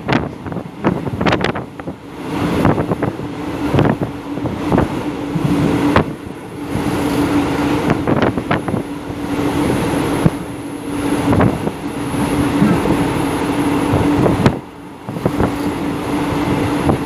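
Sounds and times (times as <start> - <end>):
sharp clacks of train wheels: 0.0 - 17.0
train coach rumble and rattle: 0.0 - 17.0.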